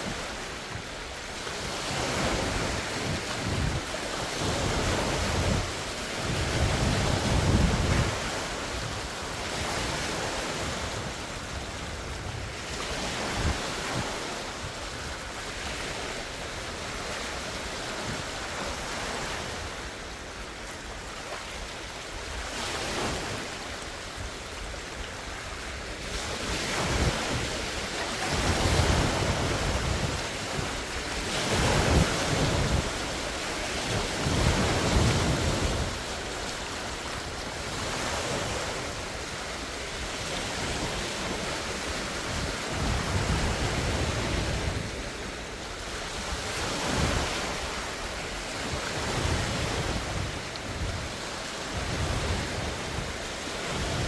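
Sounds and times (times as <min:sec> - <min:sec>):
lake waves breaking and splashing: 0:00.0 - 0:54.0
wind buffeting microphone: 0:01.6 - 0:20.1, 0:20.8 - 0:54.0.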